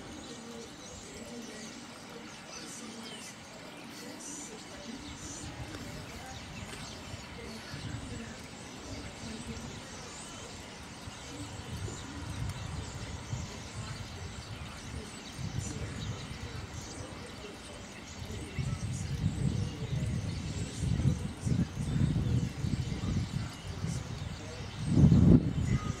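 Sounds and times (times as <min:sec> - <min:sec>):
starlings chattering: 0:00.0 - 0:26.0.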